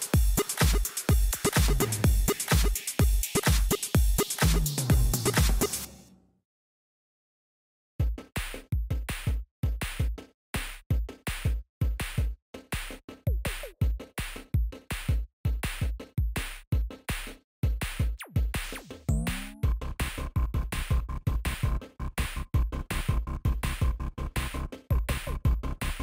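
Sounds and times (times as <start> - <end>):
electronic music with drum-machine beat: 0.0 - 6.0, 8.0 - 26.0.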